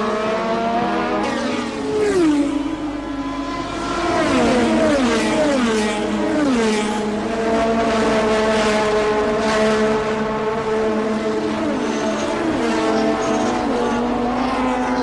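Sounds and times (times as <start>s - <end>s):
race car engines at high revs: 0.0s - 15.0s.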